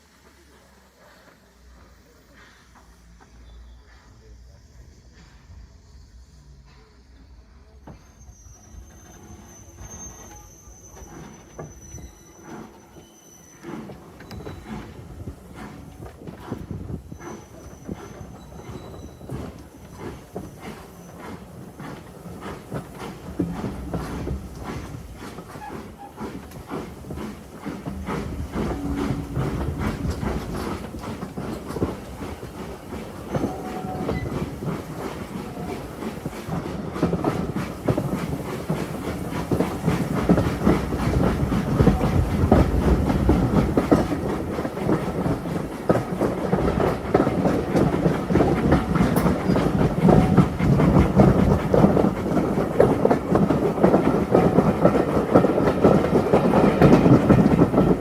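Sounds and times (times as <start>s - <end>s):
train rumble: 0.0s - 58.0s
train wheels clicking over rail joints: 7.8s - 58.0s.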